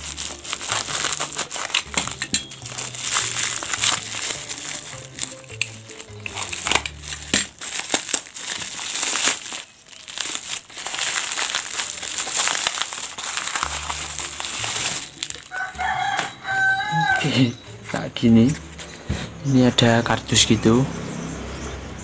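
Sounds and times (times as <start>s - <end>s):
plastic and paper crinkling: 0.0s - 19.0s.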